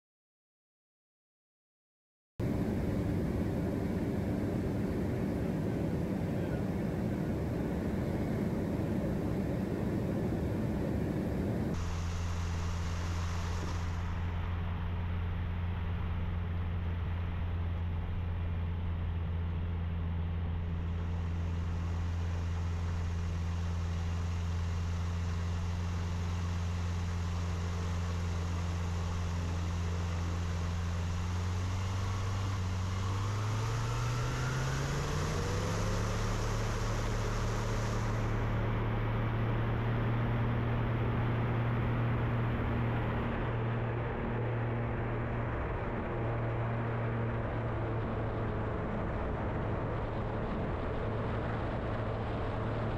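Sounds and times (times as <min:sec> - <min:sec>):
light aircraft engine and propeller: 0:02.4 - 0:52.9.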